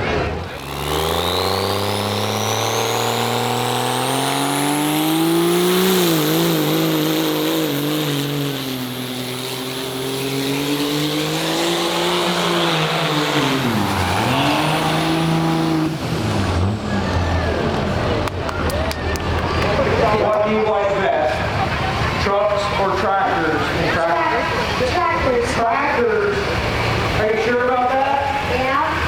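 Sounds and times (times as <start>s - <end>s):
turbocharged engine at full throttle: 0.0s - 29.0s.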